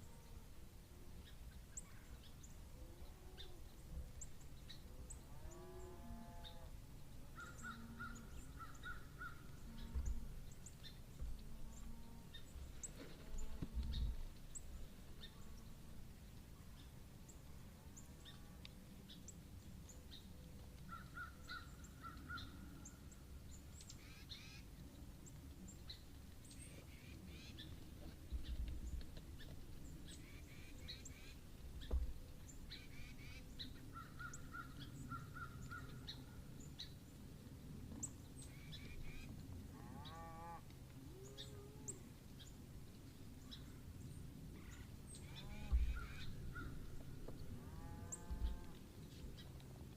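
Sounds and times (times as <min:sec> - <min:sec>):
woodland birds chirping: 0:01.1 - 0:40.3, 0:41.2 - 0:49.9.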